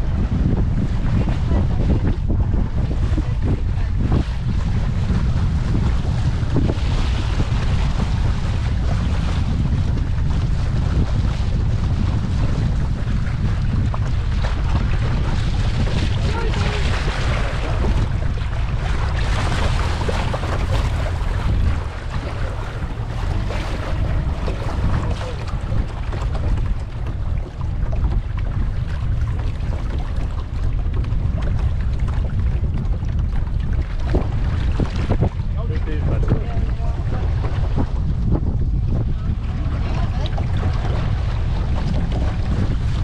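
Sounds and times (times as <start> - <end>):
boat running noise: 0.0 - 43.0
wind rumbling on microphone: 0.0 - 43.0.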